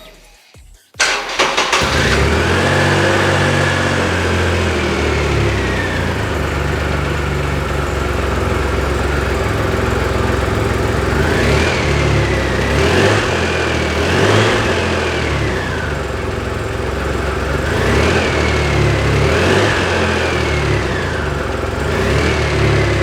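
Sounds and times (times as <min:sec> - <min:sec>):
electric starter cranking: 0:01.0 - 0:23.0
motorcycle engine idling: 0:01.0 - 0:23.0.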